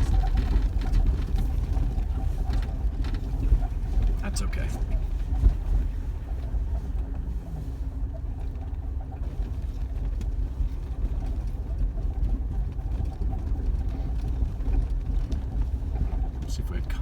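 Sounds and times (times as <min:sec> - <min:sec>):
engine and drivetrain rumble: 0:00.0 - 0:17.0
light ticks and rattles: 0:00.0 - 0:17.0.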